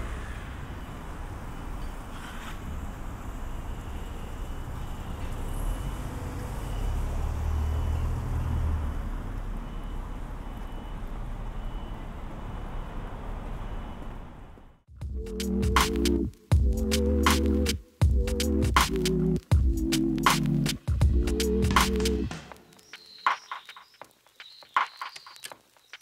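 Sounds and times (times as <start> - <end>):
low traffic rumble: 0.0 - 22.7.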